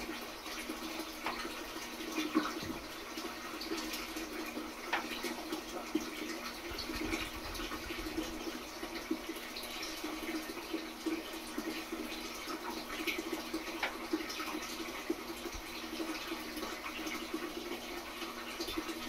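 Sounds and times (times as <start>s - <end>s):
water trickling and bubbling: 0.0s - 19.0s.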